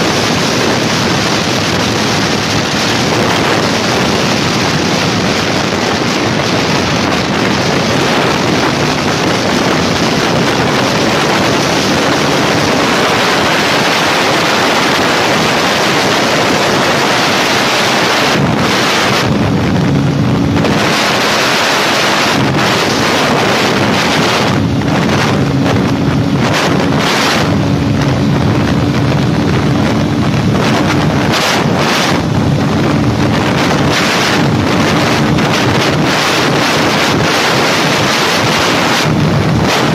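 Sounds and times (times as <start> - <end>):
motorcycle engine droning: 0.0 - 39.9
wind buffeting microphone: 0.0 - 39.9.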